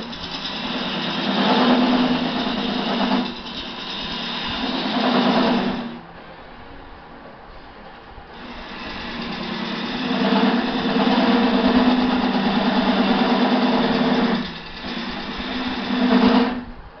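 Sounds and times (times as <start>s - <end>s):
gouge cutting wood on lathe: 0.0s - 6.0s, 8.4s - 16.6s
lathe motor hum: 0.0s - 6.0s, 8.3s - 16.7s.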